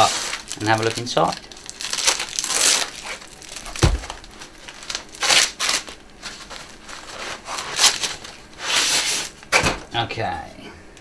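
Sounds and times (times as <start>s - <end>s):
packing material rustling: 0.0s - 9.9s.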